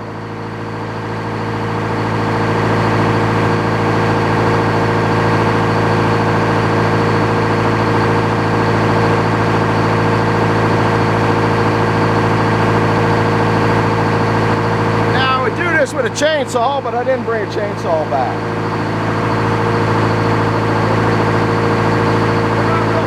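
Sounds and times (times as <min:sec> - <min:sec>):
sawmill engine running: 0:00.0 - 0:23.0.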